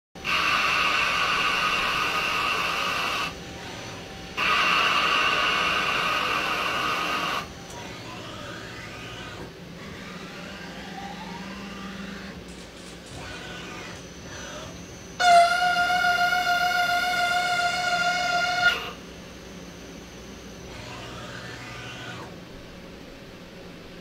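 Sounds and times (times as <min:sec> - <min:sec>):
lathe cutting high-pitched tone: 0:00.2 - 0:12.4, 0:13.1 - 0:22.5
machine whines: 0:00.2 - 0:24.0.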